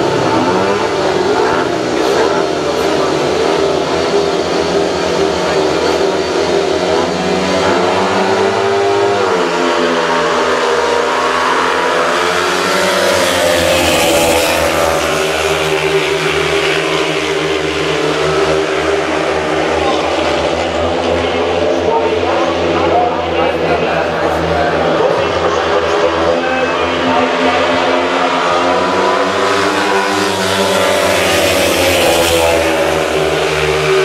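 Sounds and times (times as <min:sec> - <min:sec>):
racing motorcycle engines revving: 0:00.0 - 0:34.0.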